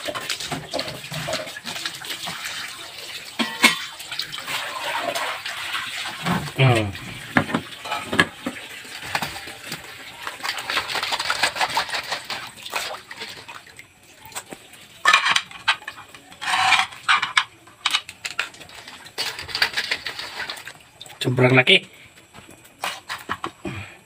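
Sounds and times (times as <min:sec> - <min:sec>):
water sloshing and dripping: 0:00.0 - 0:23.8.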